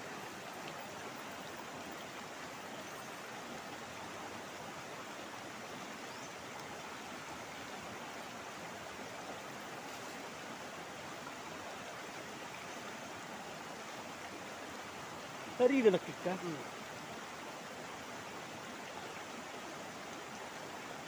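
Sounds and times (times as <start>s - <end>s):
stream rushing over stones: 0.0s - 21.0s.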